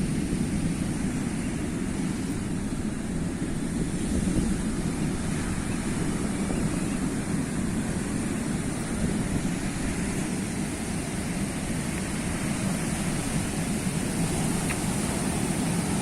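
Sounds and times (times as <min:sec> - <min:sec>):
sea surf rumble: 0:00.0 - 0:16.0.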